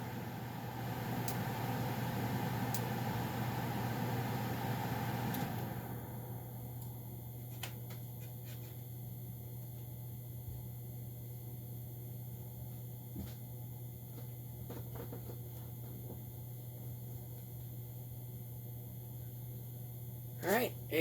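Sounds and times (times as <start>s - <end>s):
gas furnace humming: 0.0s - 21.0s.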